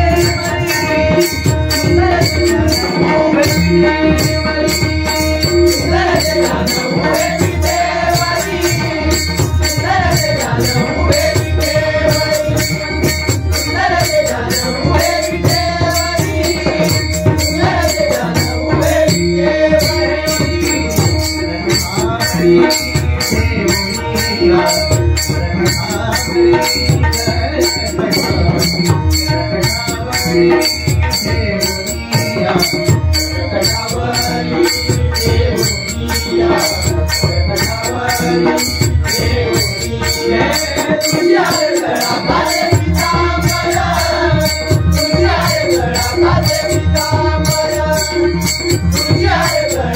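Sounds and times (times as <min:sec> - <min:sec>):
hand drums playing: 0:00.0 - 0:49.9.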